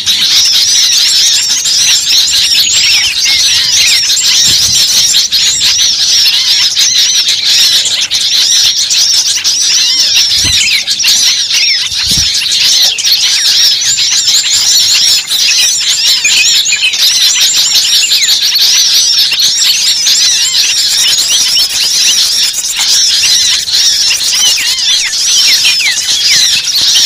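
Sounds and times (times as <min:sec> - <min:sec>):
flock of birds chattering: 0:00.0 - 0:27.0.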